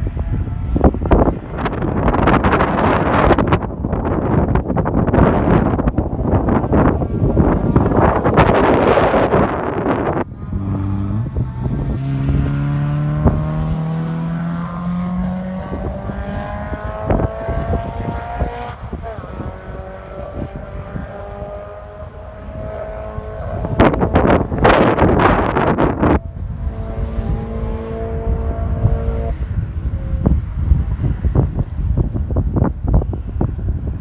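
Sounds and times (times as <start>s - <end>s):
race car engine passing: 0.0s - 31.5s.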